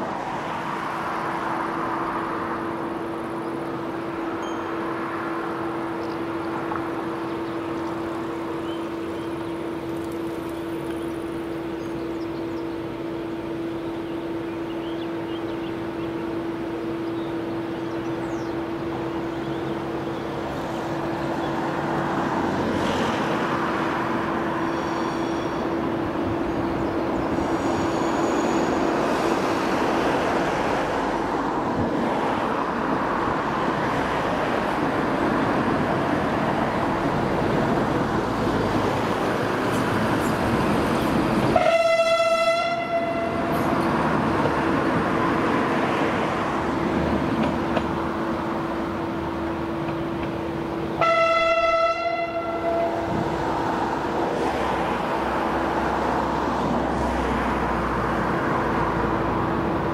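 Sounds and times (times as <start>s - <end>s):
approaching train running noise: 0.0s - 59.9s
electric locomotive hum: 0.0s - 59.9s.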